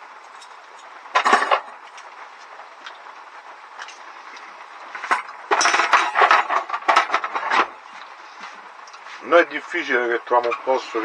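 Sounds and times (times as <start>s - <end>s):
rain on a roof: 0.0s - 10.8s.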